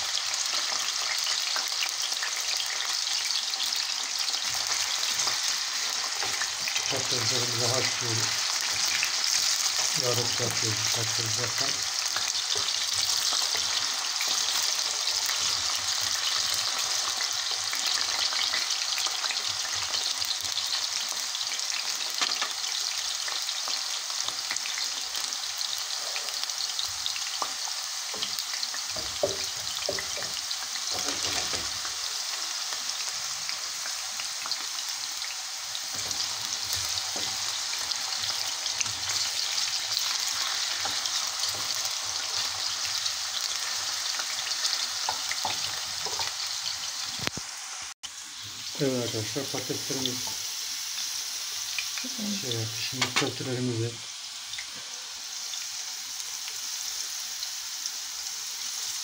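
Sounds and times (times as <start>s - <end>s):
potato wedges sizzling in oil: 0.0s - 59.0s.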